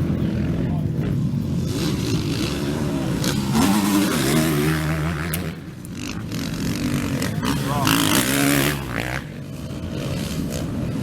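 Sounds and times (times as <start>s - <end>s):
racing motorcycle engines passing: 0.0s - 11.0s.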